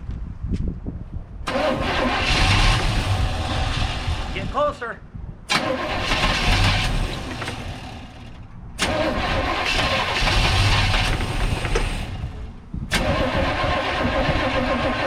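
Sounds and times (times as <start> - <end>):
starter cranking engine: 1.5 - 4.5, 5.5 - 15.0.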